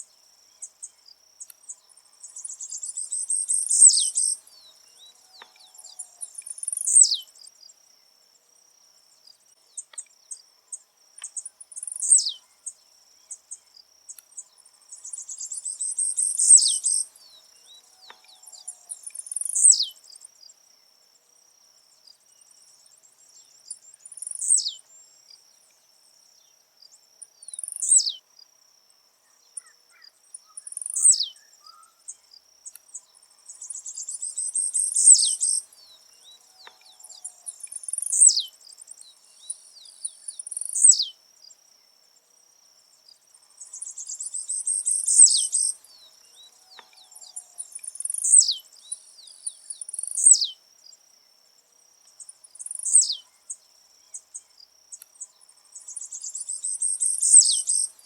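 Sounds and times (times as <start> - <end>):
bird buzzy song: 0.0 - 21.0, 21.8 - 28.5, 29.2 - 42.3, 42.9 - 51.4, 52.0 - 58.0
high insect trill: 0.0 - 58.0.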